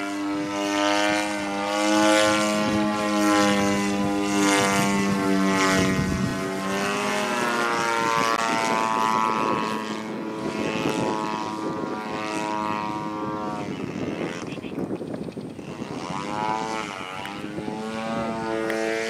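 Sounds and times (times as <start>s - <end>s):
model plane engine buzzing: 0.0s - 19.0s.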